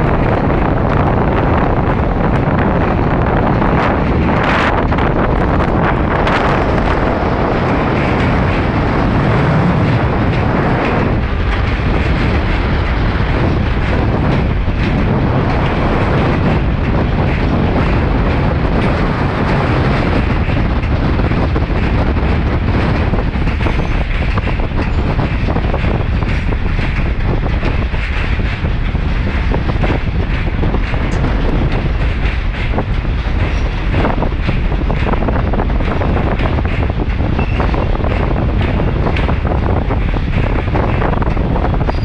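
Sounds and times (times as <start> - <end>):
train wheels clattering: 0.0 - 42.0
wind buffeting microphone: 0.0 - 42.0.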